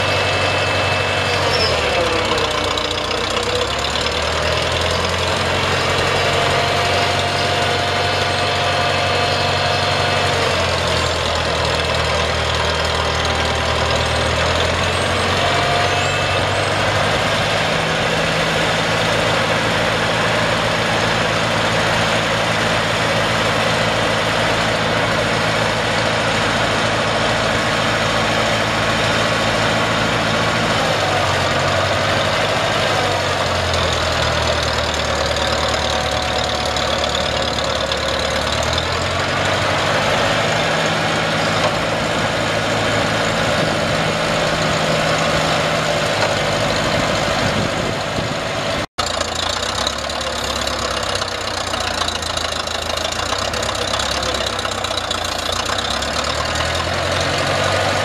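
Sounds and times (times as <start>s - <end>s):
drilling rig engine running: 0.0s - 58.0s.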